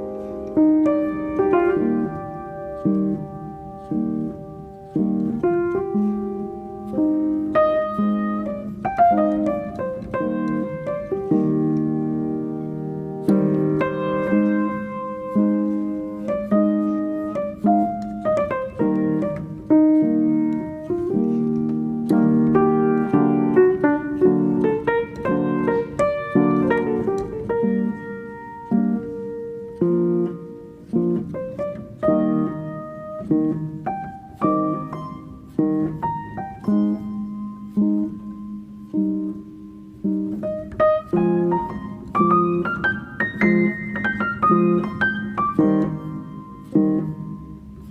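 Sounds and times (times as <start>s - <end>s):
calm solo piano: 0.0s - 47.9s.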